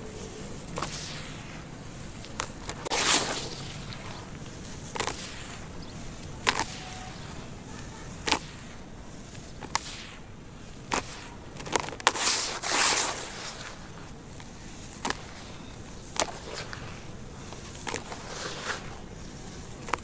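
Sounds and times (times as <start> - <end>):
crunchy crackle of soil: 0.0 - 20.0
falling dirt rush: 0.0 - 20.0.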